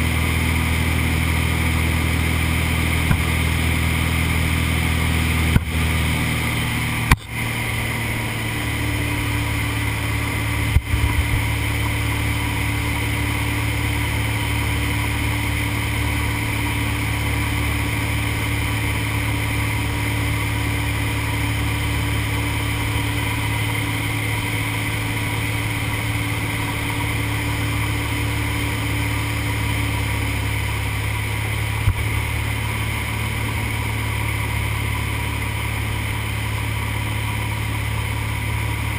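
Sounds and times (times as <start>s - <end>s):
small plane engine drone: 0.0s - 38.9s.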